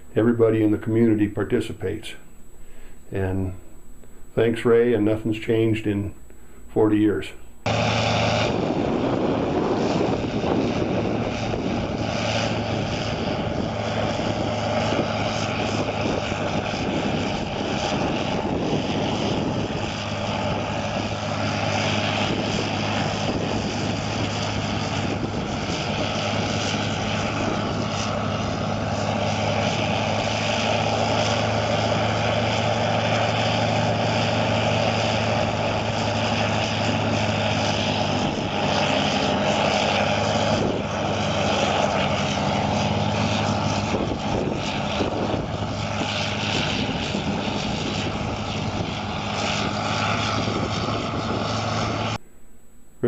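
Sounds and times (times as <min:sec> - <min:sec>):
diesel engine droning under load: 0:00.0 - 0:53.0.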